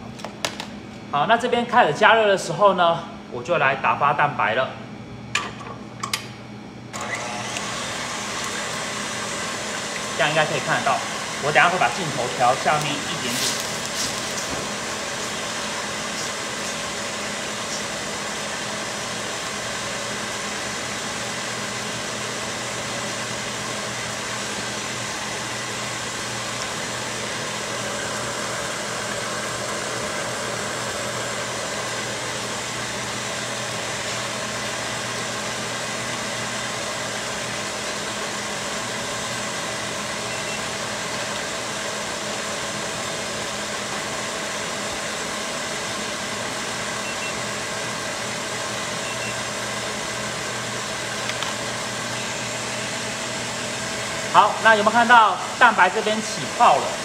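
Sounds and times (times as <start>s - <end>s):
stand mixer motor whipping: 6.9s - 57.0s.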